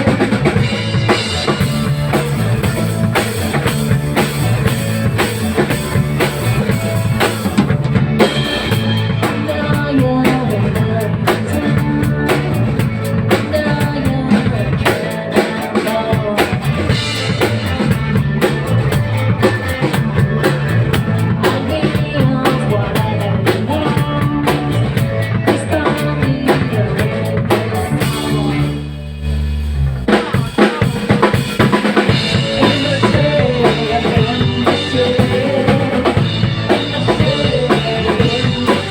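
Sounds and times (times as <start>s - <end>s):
band playing rock music: 0.0s - 38.9s
bass line: 0.0s - 38.9s
drum kit: 0.0s - 38.9s.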